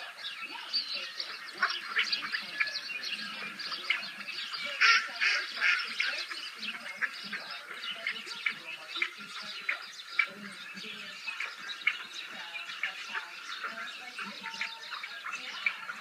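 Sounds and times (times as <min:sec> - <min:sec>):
birds chirping over speakers: 0:00.0 - 0:16.0.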